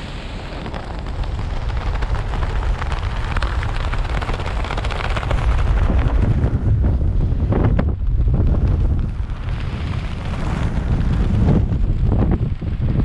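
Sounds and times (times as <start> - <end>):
freefall wind buffeting microphone: 0.0 - 13.0.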